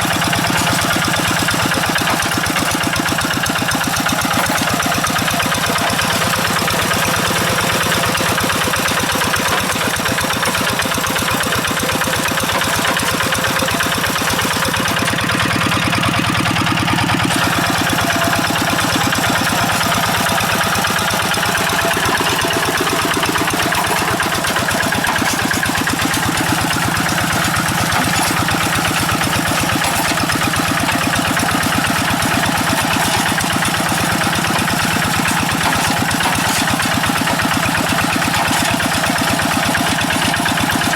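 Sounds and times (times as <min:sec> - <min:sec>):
diesel engine puttering: 0:00.0 - 0:40.9.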